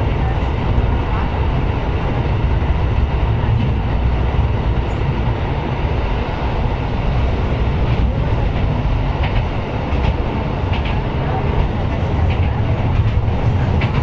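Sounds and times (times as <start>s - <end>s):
railcar engine and wheels rumbling: 0.0s - 14.0s.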